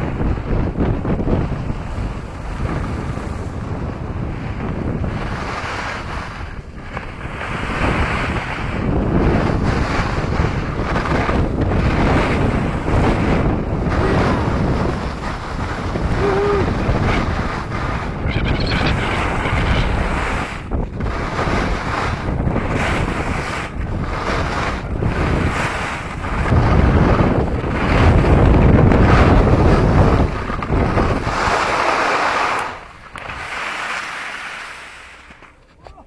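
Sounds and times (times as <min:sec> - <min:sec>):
wind rushing over microphone: 0:00.0 - 0:36.0
skis scraping over snow: 0:02.6 - 0:16.1, 0:16.8 - 0:35.8.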